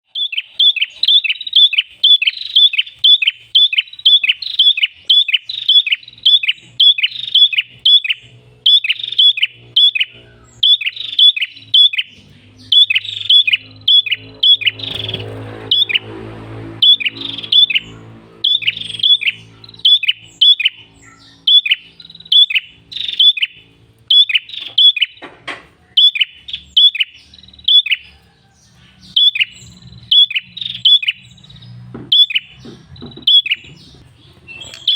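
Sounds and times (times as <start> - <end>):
bird chirping sharply: 0.0 - 25.2, 25.8 - 34.9.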